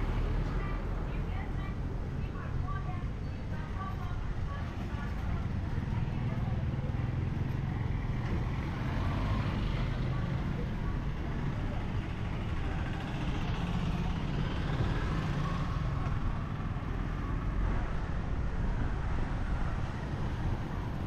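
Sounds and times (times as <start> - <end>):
low rumble of engines: 0.0 - 21.0
vehicles passing: 0.0 - 21.0.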